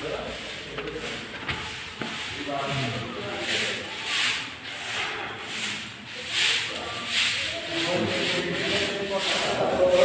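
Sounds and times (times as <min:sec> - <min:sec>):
broom sweeping concrete floor: 0:00.0 - 0:10.0.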